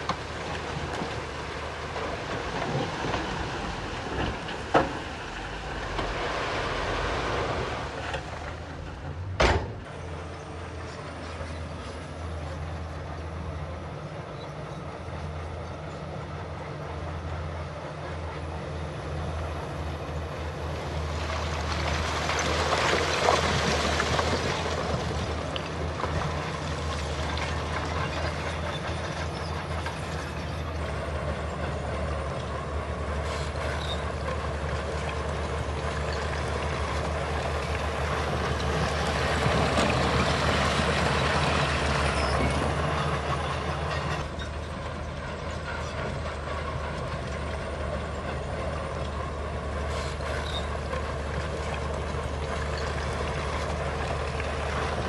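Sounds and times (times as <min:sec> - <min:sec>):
diesel machinery droning: 0:00.0 - 0:55.0.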